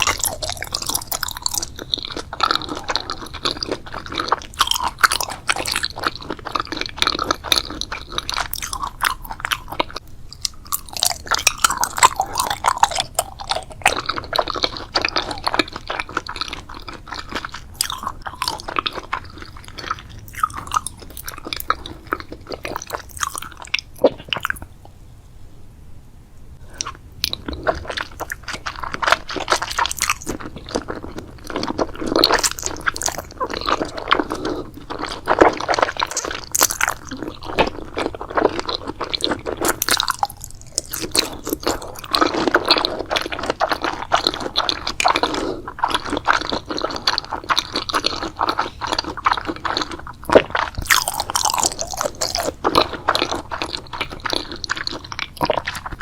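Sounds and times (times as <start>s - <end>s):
crunchy chewing: 0.0s - 24.9s, 26.7s - 56.0s.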